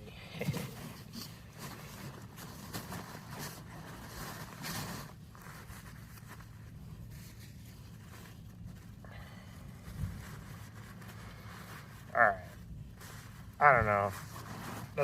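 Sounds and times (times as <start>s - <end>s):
steady low hum: 0.0s - 15.0s
plastic packaging rustling: 0.5s - 9.0s, 9.6s - 15.0s.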